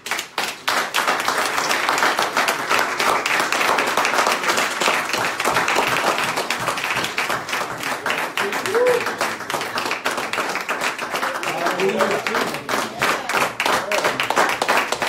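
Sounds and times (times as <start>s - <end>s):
people applauding: 0.0s - 15.0s.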